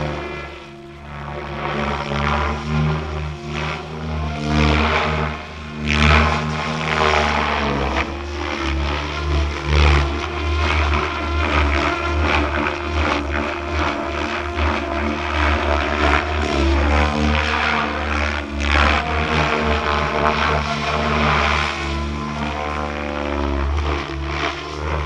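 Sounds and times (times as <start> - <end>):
model helicopter rotor drone: 0.0 - 25.0.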